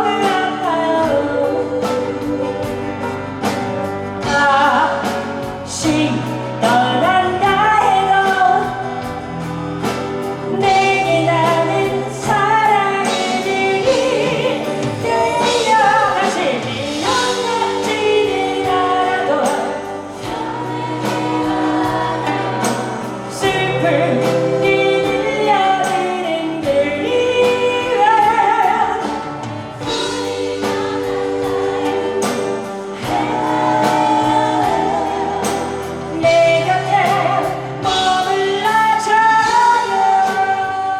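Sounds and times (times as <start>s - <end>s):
band playing ballad: 0.0s - 40.9s
voices singing together: 0.0s - 40.9s.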